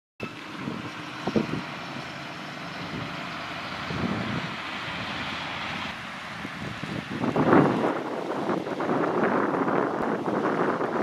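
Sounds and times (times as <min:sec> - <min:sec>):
harvester engine and machinery: 0:00.2 - 0:11.0
low rumbles: 0:00.2 - 0:11.0.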